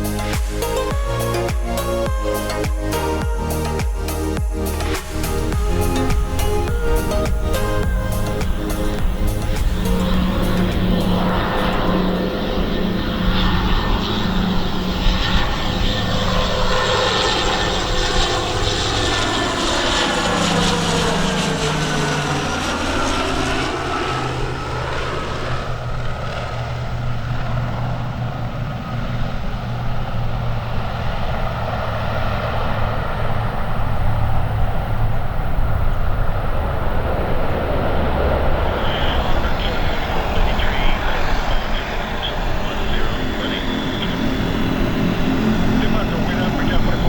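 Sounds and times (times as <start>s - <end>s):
turboprop aircraft passing: 0.0s - 47.0s.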